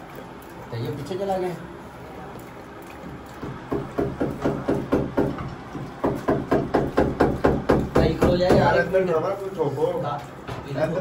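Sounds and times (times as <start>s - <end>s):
tiger lapping water from metal bowl: 0.0s - 10.5s.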